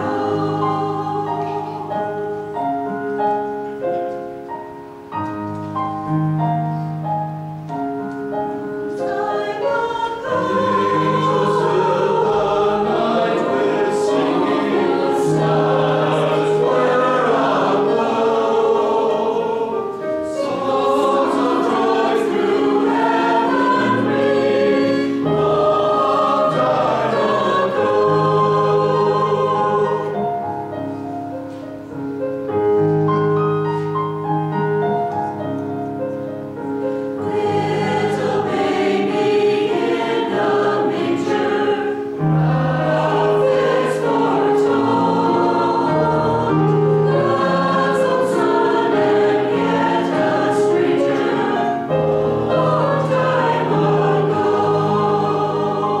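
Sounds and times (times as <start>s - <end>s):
mixed choir singing: 0.0s - 3.6s, 8.4s - 31.0s, 36.9s - 56.0s
piano accompaniment: 0.0s - 56.0s.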